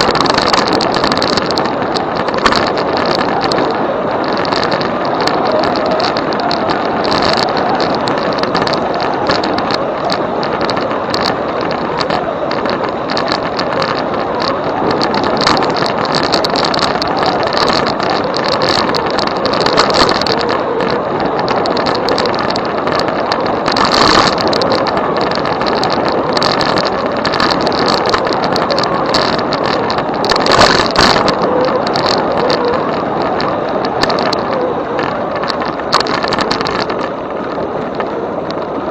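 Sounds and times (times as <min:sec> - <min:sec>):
e-bike ride noise: 0:00.0 - 0:38.9
louder rattling surges: 0:00.0 - 0:38.9
small rattles and clicks: 0:00.0 - 0:38.9.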